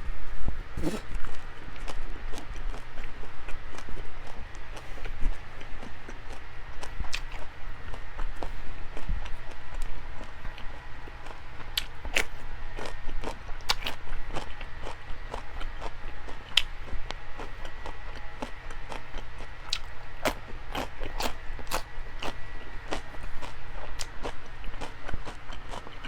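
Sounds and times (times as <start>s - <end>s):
chewing and biting food: 0.8s - 26.0s.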